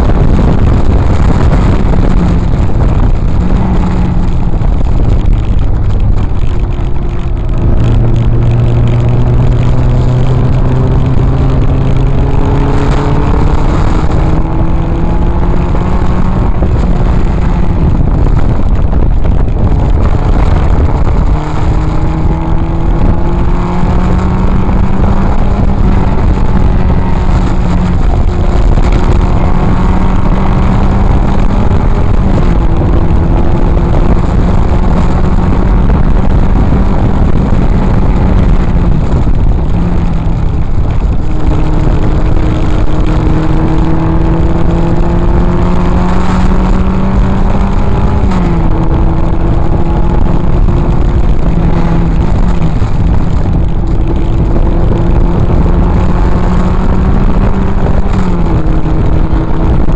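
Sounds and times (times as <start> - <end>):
car engine racing: 0.0 - 59.9
wind and road noise: 0.0 - 59.9.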